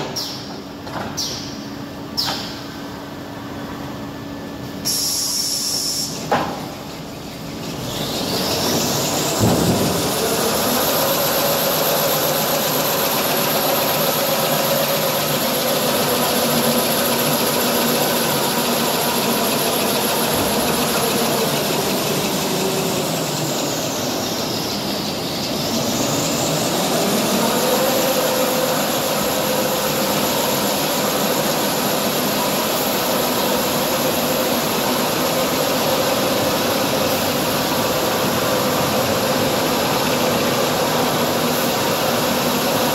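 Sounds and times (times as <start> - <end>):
machinery with high motor whine: 0.0 - 42.9.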